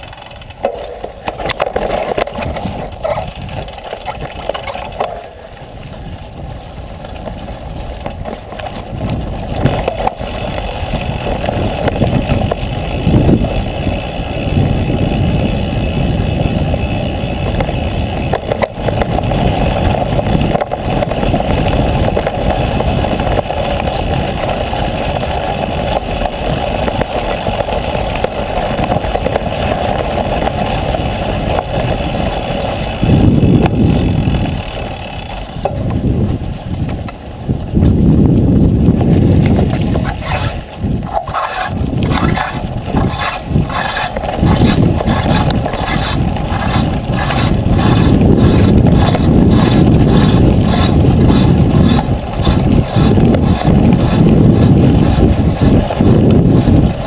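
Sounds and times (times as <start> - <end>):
bike rattling over rough road: 0.0 - 57.0
tyre noise: 0.0 - 57.0
wind rumbling on microphone: 0.0 - 57.0.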